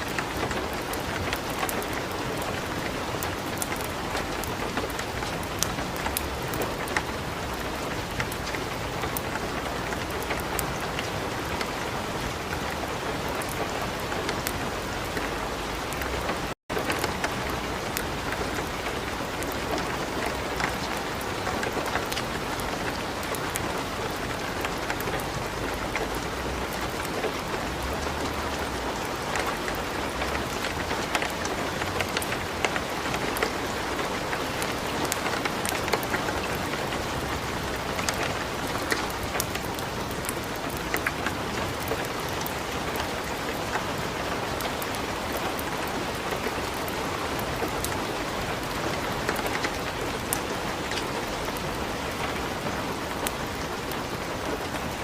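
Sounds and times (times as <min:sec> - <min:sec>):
light rain: 0:00.0 - 0:55.0
wood fire crackling: 0:00.0 - 0:55.0.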